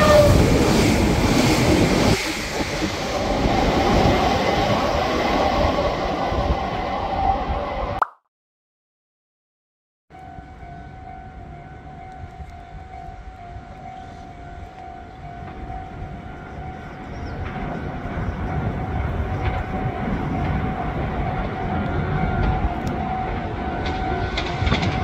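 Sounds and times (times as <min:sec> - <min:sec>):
electric train approaching: 0:00.0 - 0:08.0, 0:10.2 - 0:25.0.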